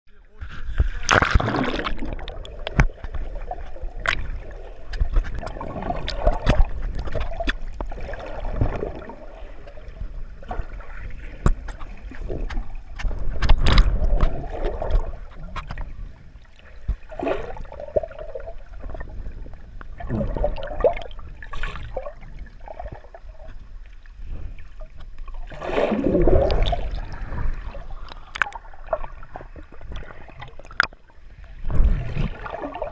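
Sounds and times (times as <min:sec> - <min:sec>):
muffled underwater sloshing: 0:00.2 - 0:32.9.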